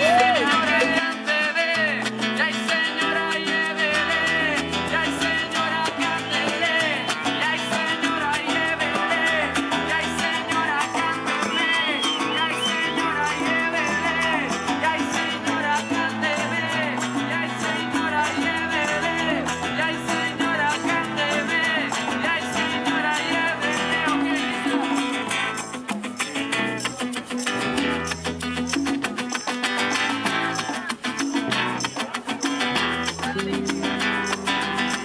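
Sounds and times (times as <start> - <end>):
acoustic guitar: 0.0 - 35.0
percussion: 0.0 - 35.0
person singing: 0.0 - 35.0.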